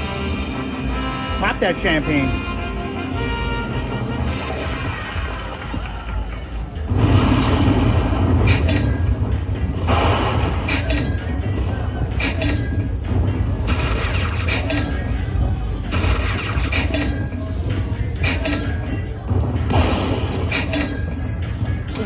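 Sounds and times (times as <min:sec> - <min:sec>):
slot machine chimes: 0:00.0 - 0:06.0, 0:07.0 - 0:19.2.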